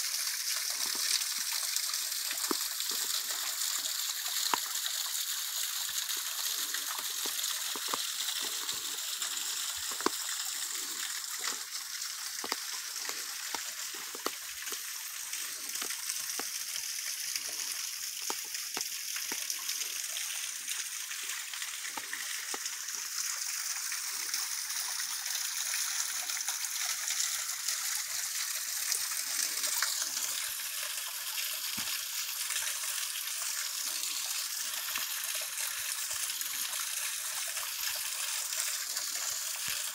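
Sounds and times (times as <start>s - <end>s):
waterfall trickling and splashing: 0.0s - 39.9s.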